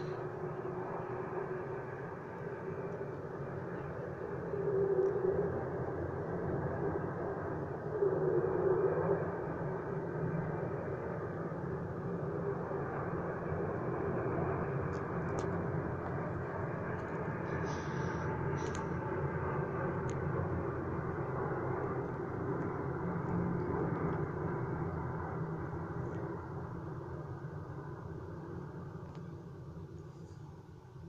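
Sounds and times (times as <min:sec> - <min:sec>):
airplane engines rumbling: 0:00.0 - 0:31.0.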